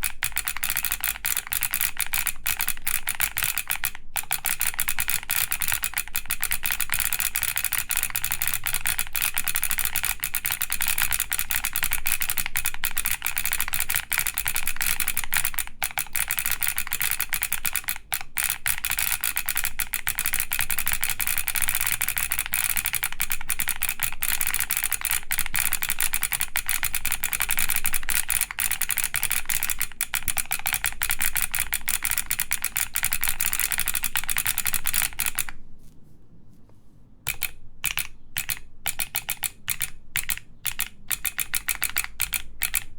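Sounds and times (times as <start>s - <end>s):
fast typing on mechanical keyboard: 0.0s - 35.6s, 37.3s - 42.9s
keyboard solenoid clicks: 0.0s - 35.6s, 37.3s - 42.9s.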